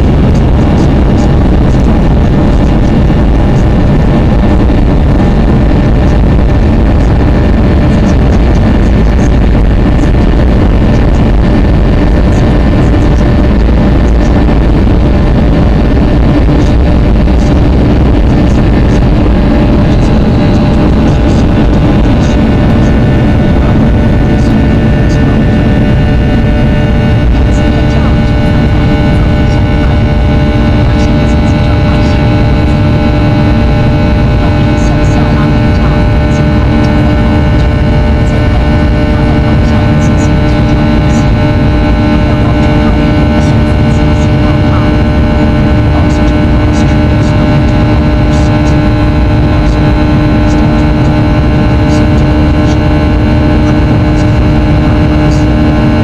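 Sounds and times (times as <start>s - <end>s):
jet engine rumble in cabin: 0.0s - 56.0s
steady whining tones: 0.0s - 56.0s.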